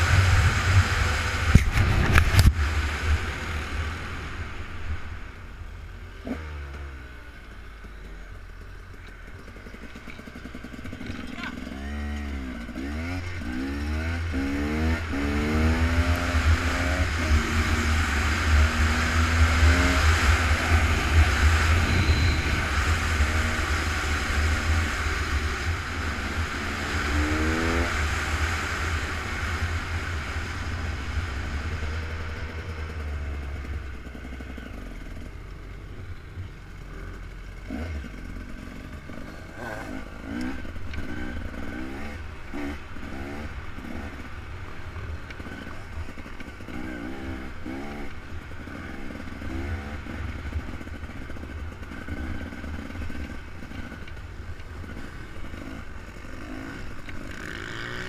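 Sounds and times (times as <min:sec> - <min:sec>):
off-road vehicle engines revving: 0:00.0 - 0:58.0.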